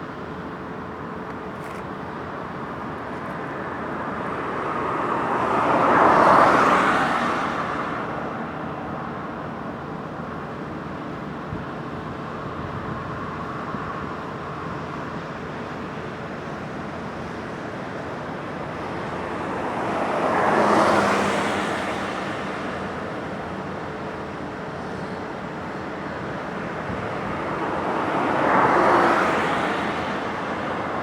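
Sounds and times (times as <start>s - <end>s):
road traffic on a bridge: 0.0s - 31.0s.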